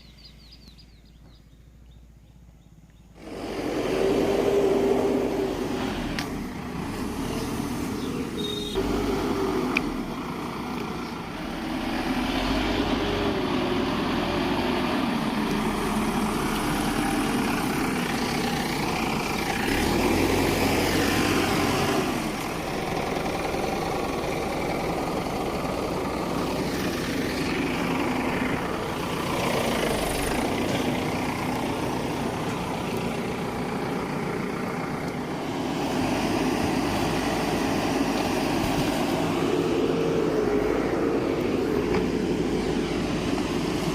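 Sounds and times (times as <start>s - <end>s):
diesel engine revving: 3.1s - 43.9s.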